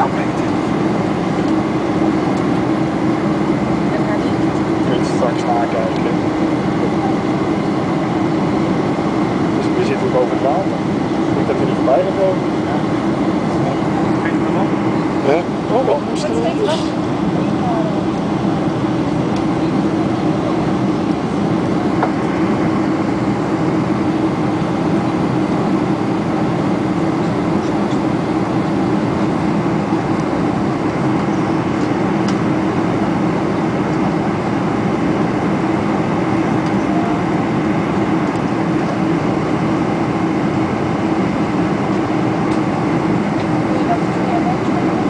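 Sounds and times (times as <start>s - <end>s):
airplane cabin engine rush: 0.0s - 45.0s.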